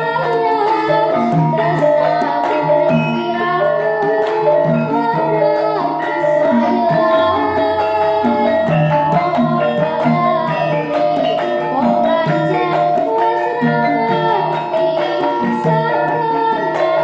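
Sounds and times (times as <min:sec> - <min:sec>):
gamelan music: 0:00.0 - 0:17.0
girl singing through microphone: 0:00.0 - 0:17.0.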